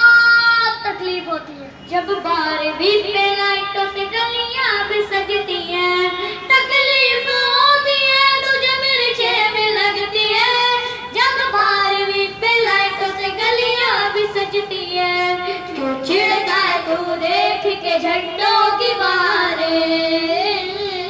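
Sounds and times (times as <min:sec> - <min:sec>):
boy singing into microphone: 0:00.0 - 0:21.0.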